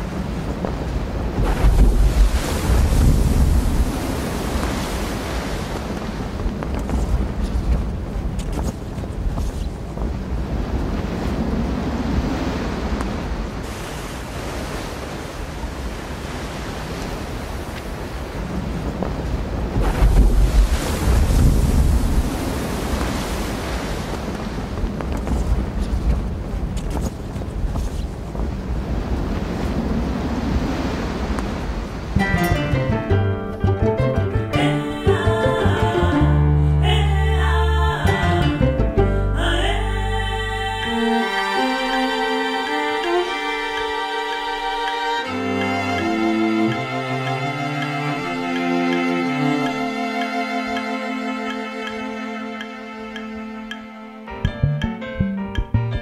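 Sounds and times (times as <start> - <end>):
ocean waves washing in: 0.0 - 54.3
wind: 0.0 - 56.0.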